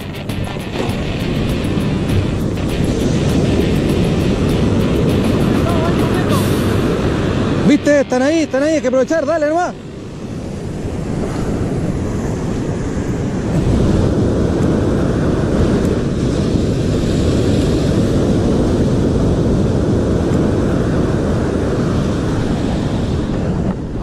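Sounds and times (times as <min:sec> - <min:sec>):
wind buffeting microphone: 0:00.0 - 0:08.5, 0:09.1 - 0:24.0
surf breaking: 0:00.0 - 0:24.0.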